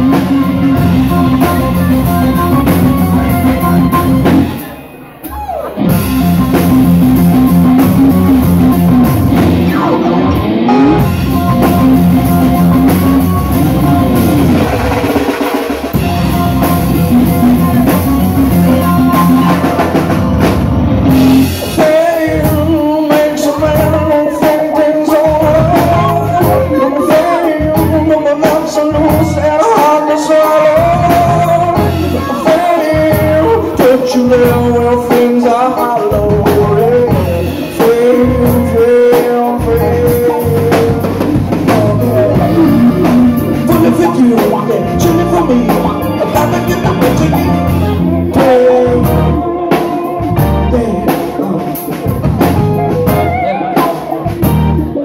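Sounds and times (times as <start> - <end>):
drum kit: 0.0 - 55.0
electric guitar lead melody: 0.0 - 55.0
live rock band playing: 0.0 - 55.0.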